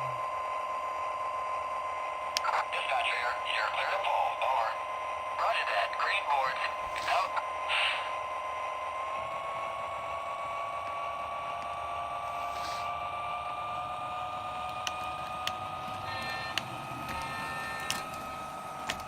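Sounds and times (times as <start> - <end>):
model locomotive hum: 0.0 - 19.0.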